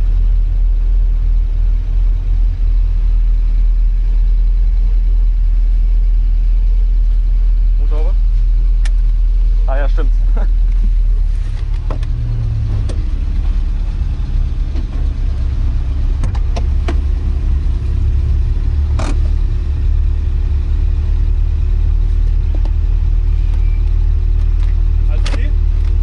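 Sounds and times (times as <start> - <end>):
car engine running inside cabin: 0.0 - 26.0.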